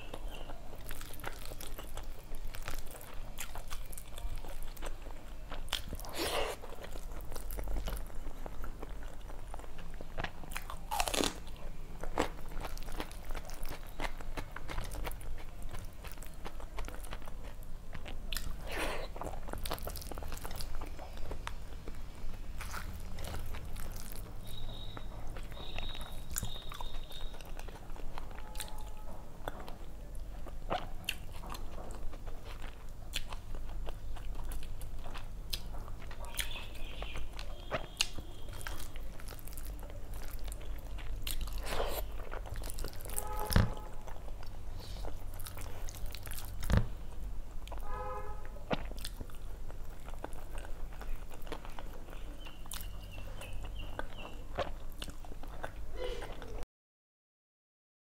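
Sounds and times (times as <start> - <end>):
person chewing food: 0.0 - 56.6.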